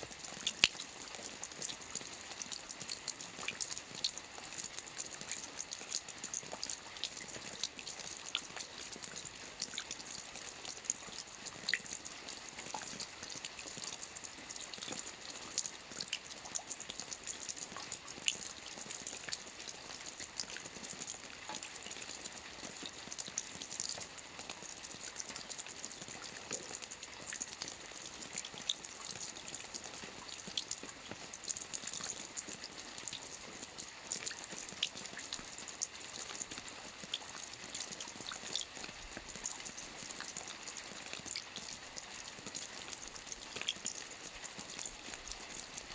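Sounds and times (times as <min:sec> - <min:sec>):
steady rain: 0:00.0 - 0:45.9
raindrops ticking: 0:00.1 - 0:45.9.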